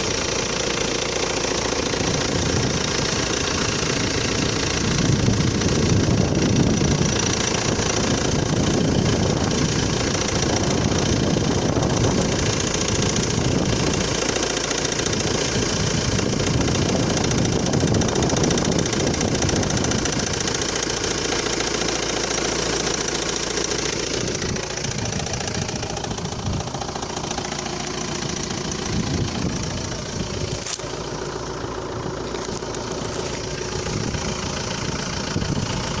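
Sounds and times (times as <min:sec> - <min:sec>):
car engine idling: 0:00.0 - 0:36.0
rapid knocking from engine pulley: 0:00.0 - 0:36.0.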